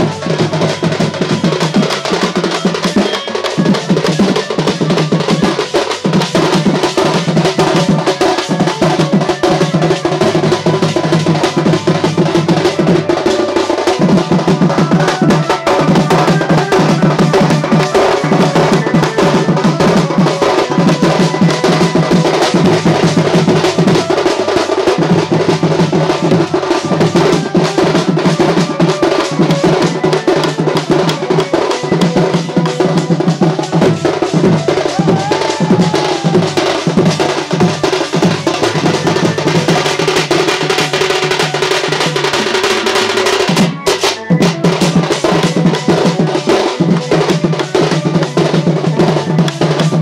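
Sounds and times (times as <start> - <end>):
group folk drumming: 0.0 - 50.0
pitched melody line: 0.0 - 50.0.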